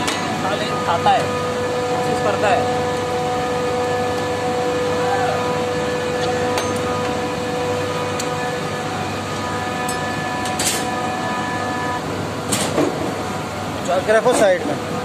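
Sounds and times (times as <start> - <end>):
machinery drone with hum: 0.0 - 15.0.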